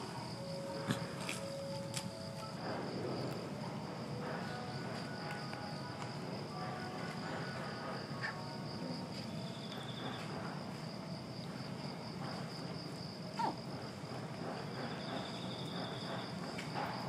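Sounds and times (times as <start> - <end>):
insects droning: 0.0 - 17.0
pulsing insect trill: 0.0 - 17.0.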